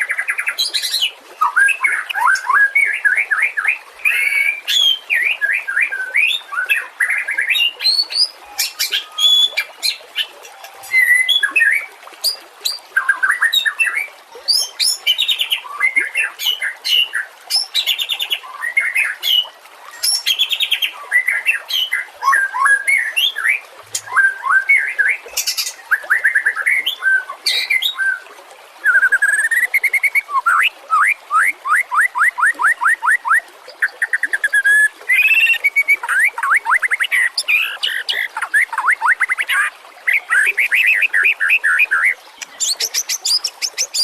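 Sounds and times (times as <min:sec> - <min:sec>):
bird singing whistles and trills: 0:00.5 - 0:28.2, 0:28.8 - 0:44.0.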